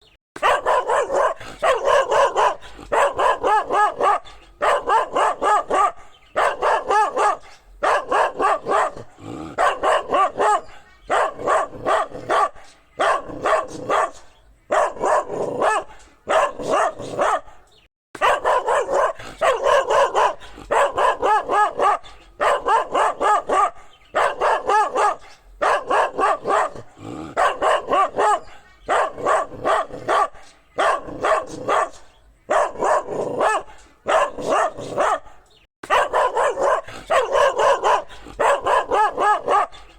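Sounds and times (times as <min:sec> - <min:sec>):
dog barking: 0:00.4 - 0:39.9.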